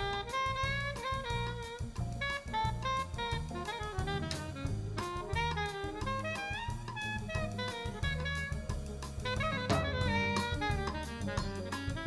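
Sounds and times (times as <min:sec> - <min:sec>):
bass: 0:00.0 - 0:12.0
drum kit: 0:00.0 - 0:12.0
keyboard: 0:00.0 - 0:12.0
saxophone lines: 0:00.0 - 0:12.0.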